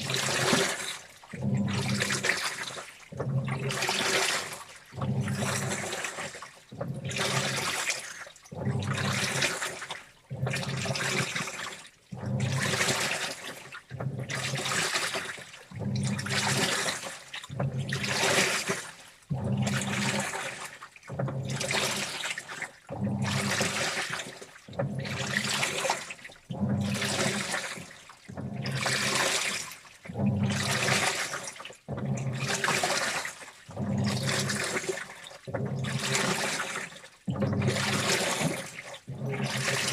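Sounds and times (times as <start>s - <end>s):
washing machine motor hum: 0.0s - 39.9s
water sloshing in washing machine: 0.0s - 39.9s.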